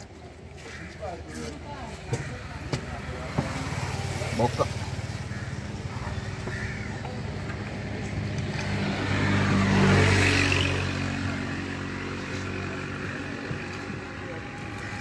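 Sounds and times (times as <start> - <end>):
vehicle engine passing: 2.8 - 15.0.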